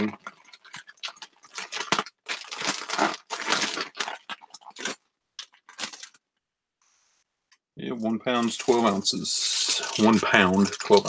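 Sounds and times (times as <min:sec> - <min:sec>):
plastic mailer crinkling: 0:00.0 - 0:06.2, 0:08.3 - 0:11.0.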